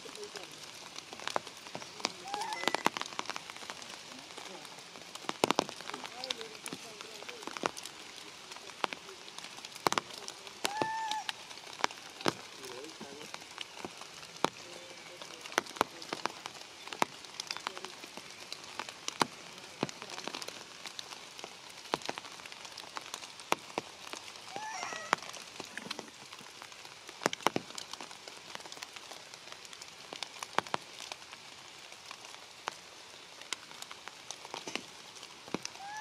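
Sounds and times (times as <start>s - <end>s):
drops ticking on leaves: 0.0s - 36.0s
steady rain: 0.0s - 36.0s.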